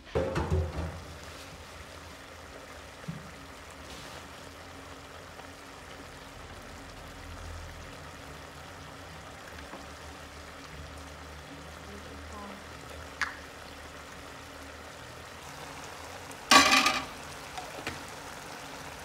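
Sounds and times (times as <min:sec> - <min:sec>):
sauce simmering and bubbling: 0:00.7 - 0:19.0.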